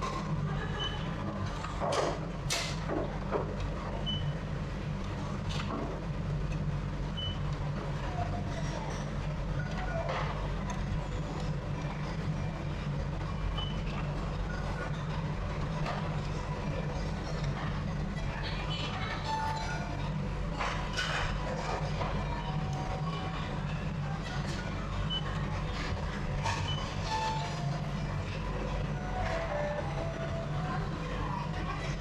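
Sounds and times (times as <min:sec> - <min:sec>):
low mechanical rumble: 0:00.0 - 0:32.0.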